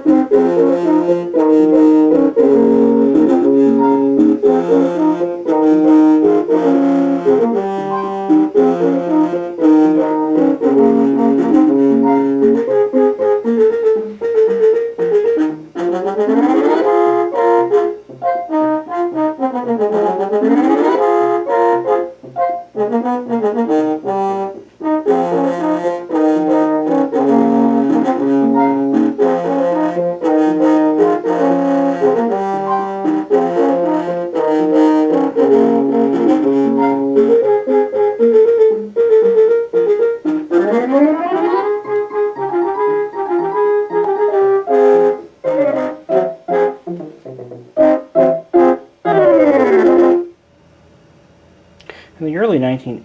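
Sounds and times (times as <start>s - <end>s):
brassy synthesizer tune: 0.0s - 50.4s.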